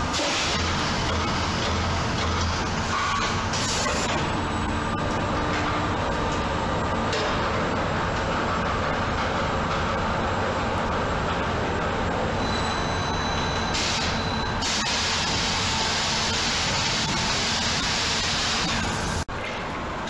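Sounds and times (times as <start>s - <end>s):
loud machine hum: 0.0s - 20.0s.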